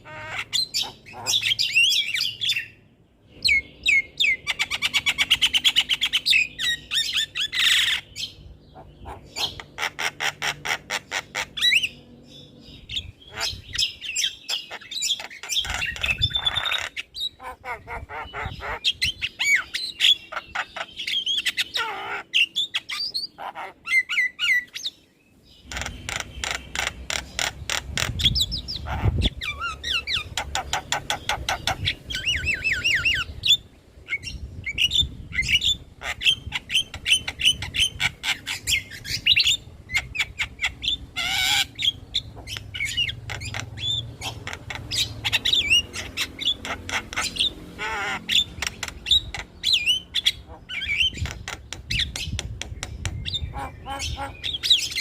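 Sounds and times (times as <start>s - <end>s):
bird singing with chatter and whistles: 0.0s - 55.0s.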